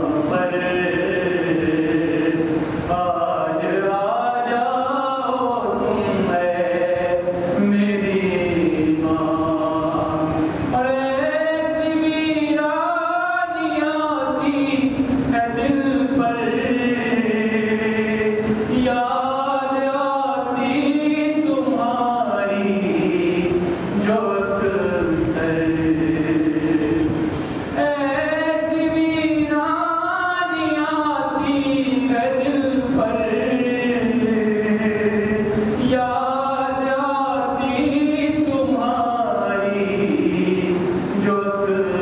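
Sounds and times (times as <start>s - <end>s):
man chanting: 0.0s - 42.0s.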